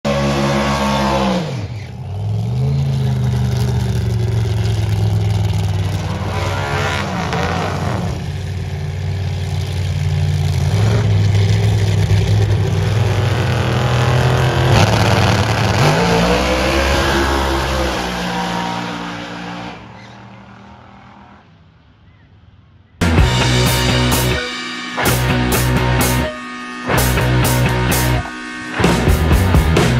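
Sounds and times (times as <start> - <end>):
drag race car engines revving: 0.0 - 21.8, 23.0 - 29.9.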